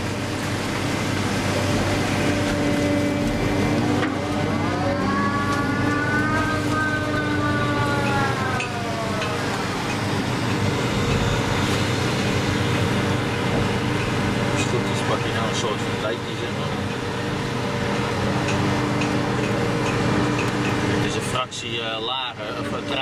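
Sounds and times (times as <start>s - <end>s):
hydraulic whine: 0.0s - 23.0s
machine engine and hydraulics running: 0.0s - 23.0s.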